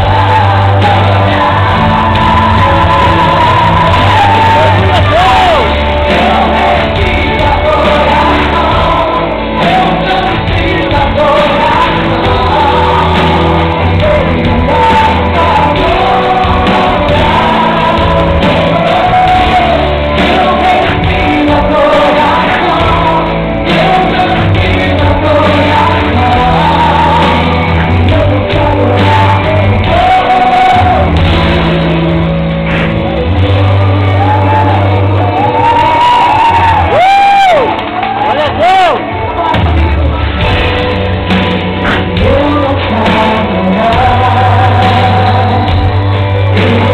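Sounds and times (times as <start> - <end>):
amplified accompaniment with bass: 0.0 - 46.9.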